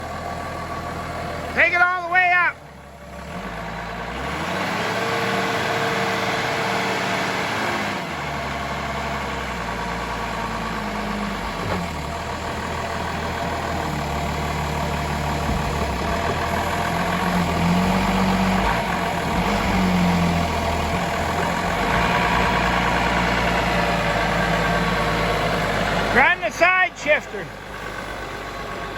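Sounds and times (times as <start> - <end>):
forklift diesel engine running: 0.0 - 28.9.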